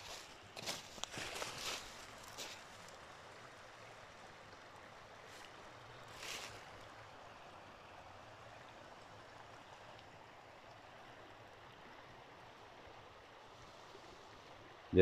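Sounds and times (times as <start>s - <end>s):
creek running over stones: 0.0s - 15.0s.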